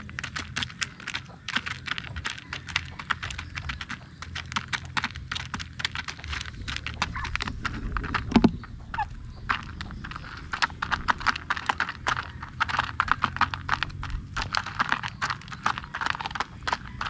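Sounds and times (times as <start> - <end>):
chickens pecking metal pan: 0.0 - 17.0.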